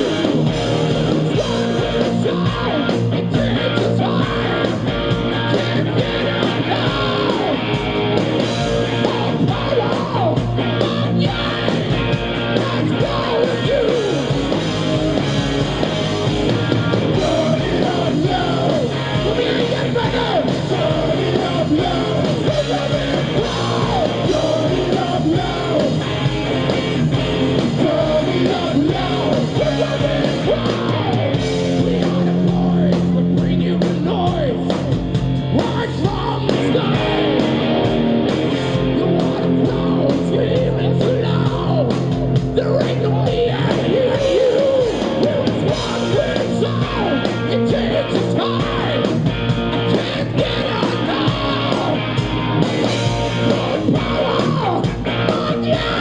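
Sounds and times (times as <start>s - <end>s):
man singing: 0.0s - 7.8s, 8.6s - 14.5s, 16.8s - 26.1s, 26.8s - 34.8s, 35.5s - 37.4s, 38.9s - 49.2s, 49.8s - 56.0s
bass guitar: 0.0s - 56.0s
distorted electric guitars: 0.0s - 56.0s
drums: 0.0s - 56.0s.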